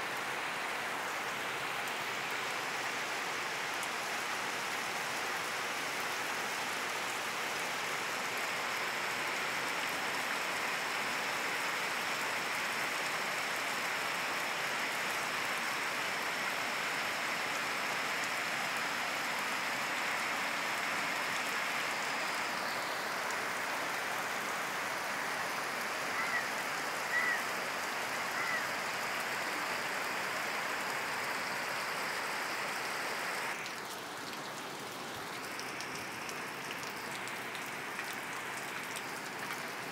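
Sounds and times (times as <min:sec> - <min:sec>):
heavy rain on concrete roof: 0:00.0 - 0:39.9.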